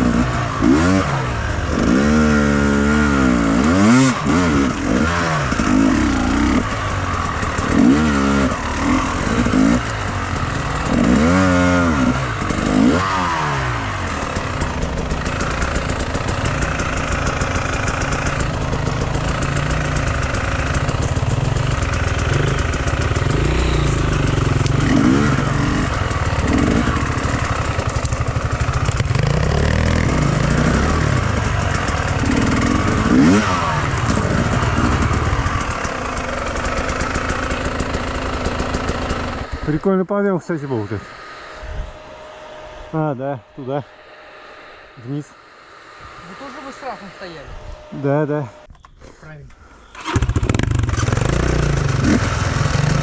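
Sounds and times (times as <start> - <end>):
motorcycle engine revving: 0.0 - 48.9, 49.8 - 53.0.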